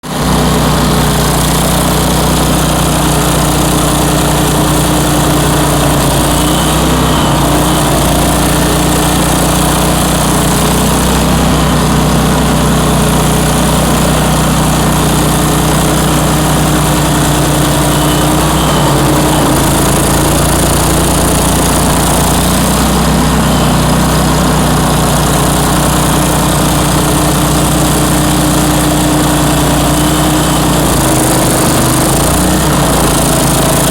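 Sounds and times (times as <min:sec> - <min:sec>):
stump grinder engine running: 0:00.0 - 0:33.9.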